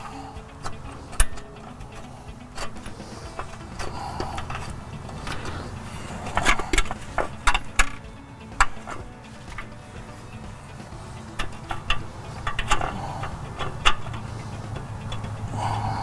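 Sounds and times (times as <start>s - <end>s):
metallic clicks and knocks of bolts: 0.4s - 15.5s.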